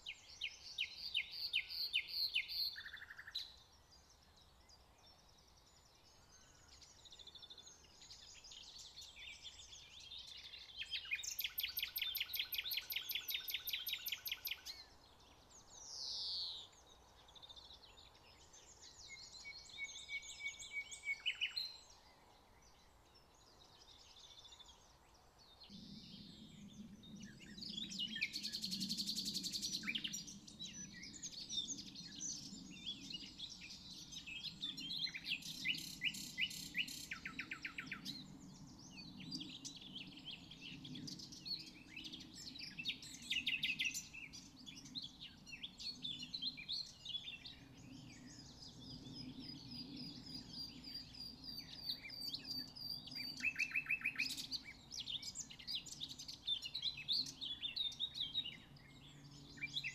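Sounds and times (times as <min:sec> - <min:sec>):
nightingale singing: 0:00.0 - 0:04.6, 0:06.8 - 0:16.8, 0:17.4 - 0:21.9, 0:25.6 - 0:59.9.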